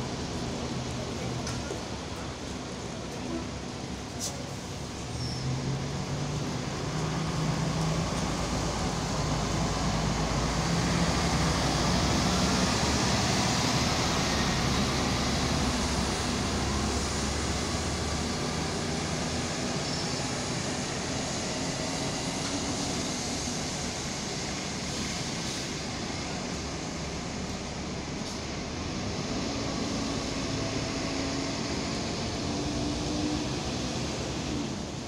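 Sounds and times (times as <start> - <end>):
bus diesel engine pulling away: 0.0 - 35.0
street traffic noise: 0.0 - 35.0.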